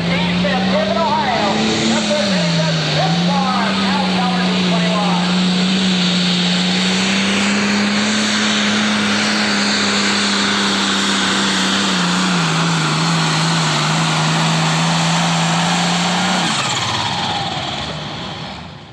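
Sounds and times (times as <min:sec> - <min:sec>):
descending engine whine: 0:00.0 - 0:18.9
pulling tractor engine at full load: 0:00.0 - 0:18.9.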